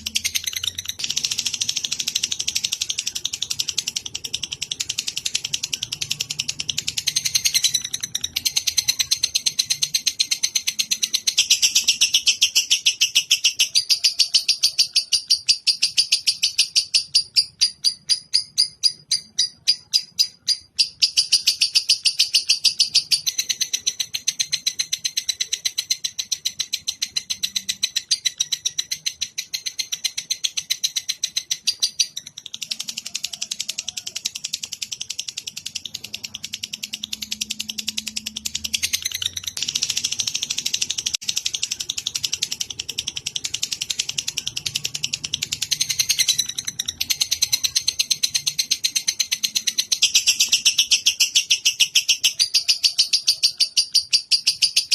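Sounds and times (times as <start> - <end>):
songbird rapid chattering: 0.0 - 54.9.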